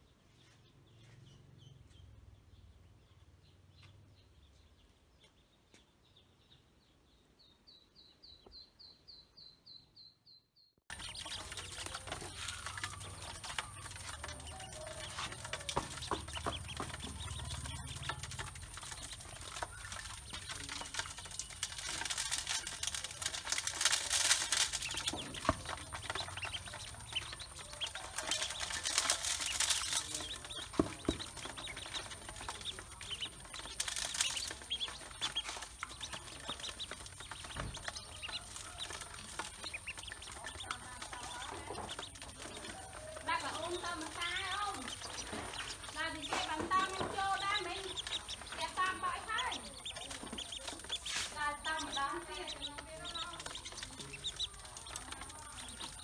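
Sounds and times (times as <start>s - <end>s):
ducklings peeping: 0.3s - 56.0s
bills ticking on metal: 10.9s - 56.0s
feed grains pattering on metal: 10.9s - 56.0s.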